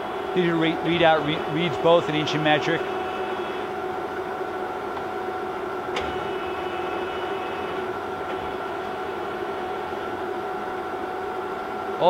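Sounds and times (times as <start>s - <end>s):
lathe humming and whining: 0.0s - 12.0s.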